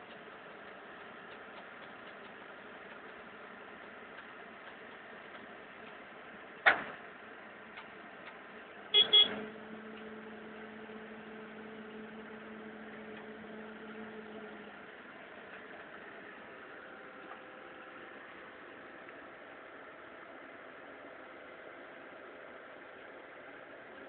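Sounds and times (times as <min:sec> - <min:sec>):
constant hiss: 0:00.0 - 0:24.0.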